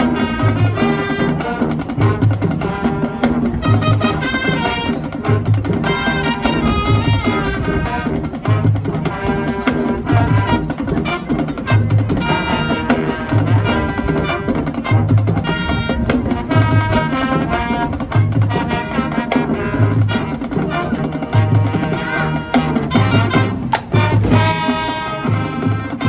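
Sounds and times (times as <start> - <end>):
marching band playing: 0.0 - 26.0.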